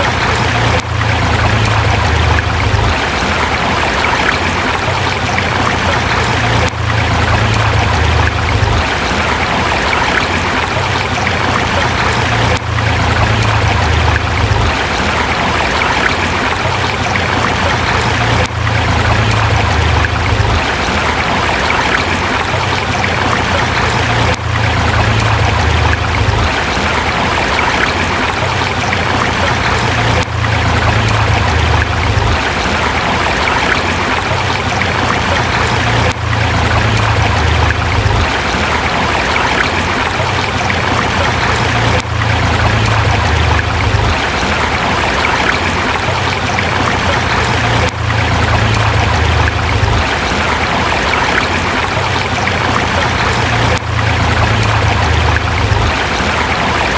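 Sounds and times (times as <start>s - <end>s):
river water rushing over rocks: 0.0s - 56.9s.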